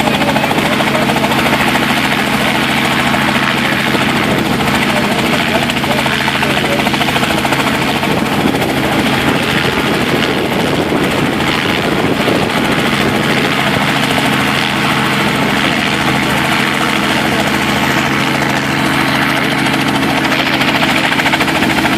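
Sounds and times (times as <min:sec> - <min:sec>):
helicopter engine and rotor: 0:00.0 - 0:21.9.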